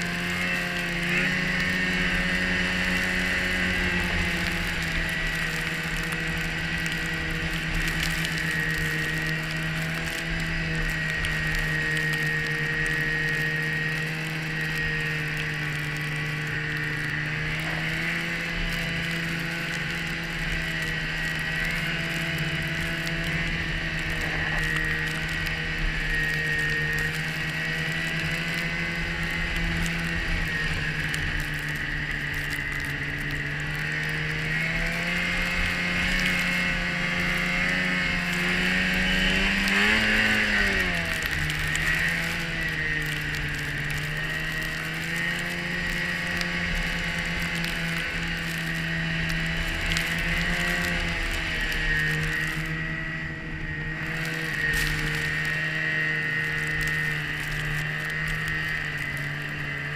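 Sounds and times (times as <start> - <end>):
high drive whine: 0.0 - 59.9
snowmobile engine running: 0.0 - 59.9.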